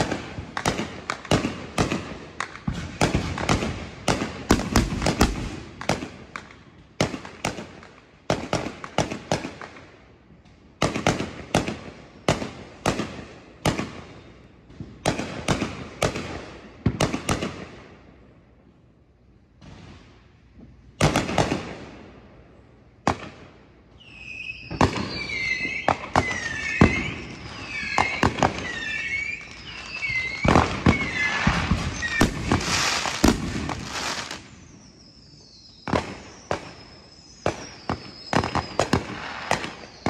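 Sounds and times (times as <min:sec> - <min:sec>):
fireworks bangs and crackles: 0:00.0 - 0:18.4, 0:19.5 - 0:40.0.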